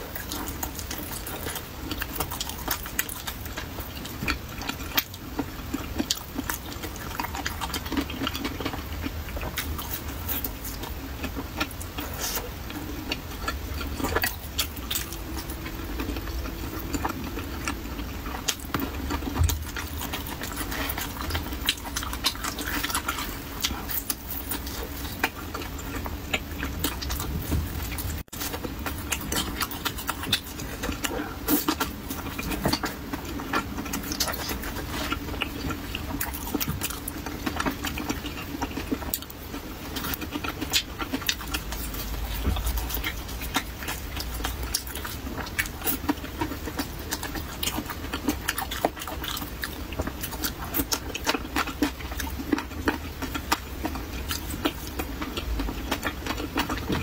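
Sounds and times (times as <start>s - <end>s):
person chewing with wet mouth clicks: 0.1s - 57.0s.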